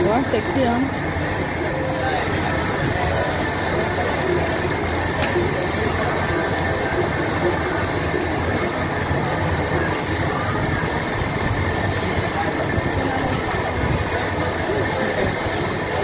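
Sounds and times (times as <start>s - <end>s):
ventilation rumble and hiss: 0.0s - 16.0s.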